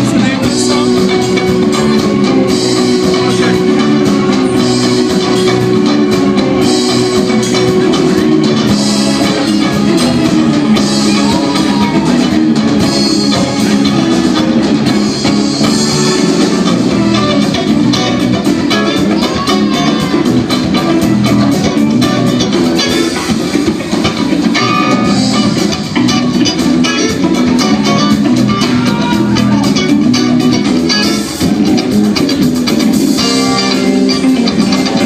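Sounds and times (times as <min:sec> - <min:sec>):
drum kit: 0:00.0 - 0:35.0
electric guitars: 0:00.0 - 0:35.0.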